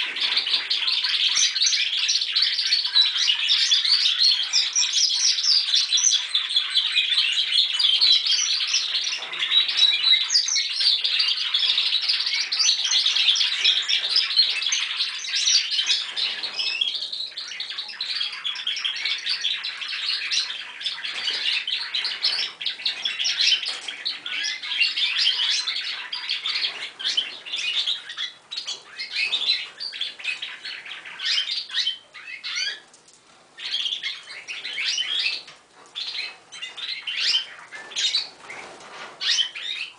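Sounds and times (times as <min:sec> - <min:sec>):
canaries warbling and chirping: 0:00.0 - 0:39.9.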